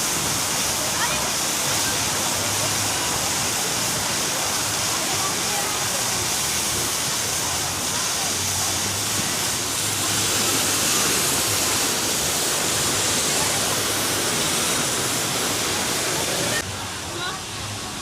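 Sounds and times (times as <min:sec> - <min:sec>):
flowing splashing water: 0:00.0 - 0:18.0.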